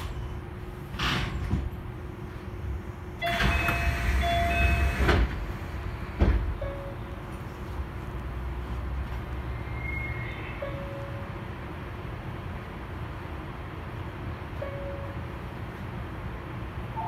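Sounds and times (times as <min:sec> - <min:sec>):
monorail train humming: 0:00.0 - 0:17.0.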